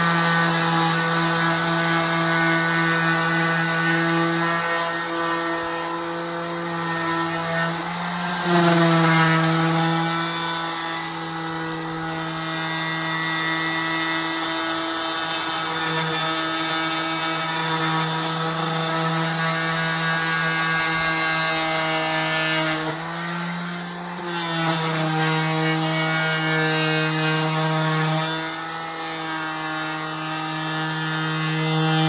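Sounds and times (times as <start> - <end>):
electric sander on wood: 0.0 - 32.0.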